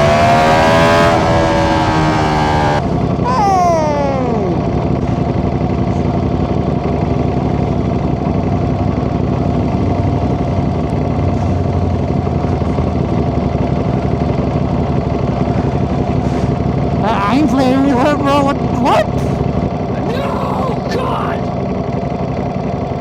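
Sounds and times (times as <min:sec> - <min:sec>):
motorcycle engine idling: 0:04.4 - 0:23.0.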